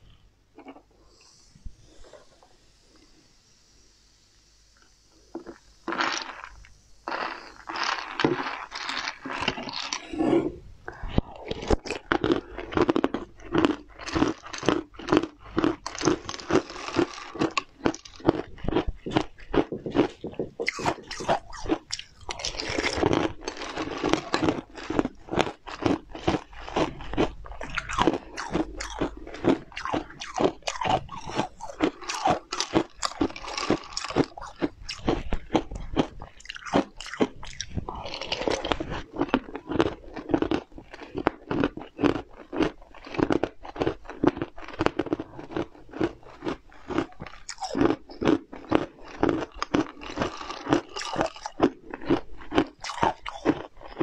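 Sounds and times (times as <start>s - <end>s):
crunchy bites: 5.5s - 54.0s
wet chewing: 7.1s - 54.0s.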